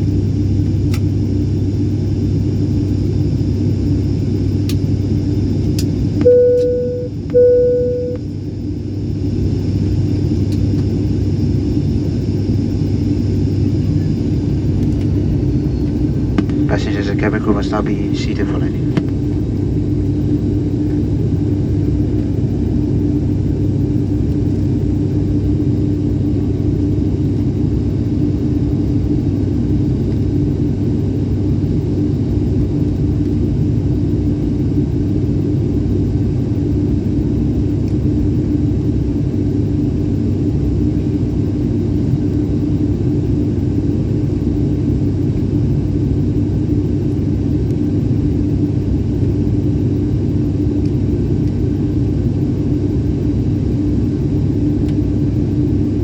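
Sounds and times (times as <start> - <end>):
constant hum: 0.0 - 56.0
engine and airflow drone: 0.0 - 56.0.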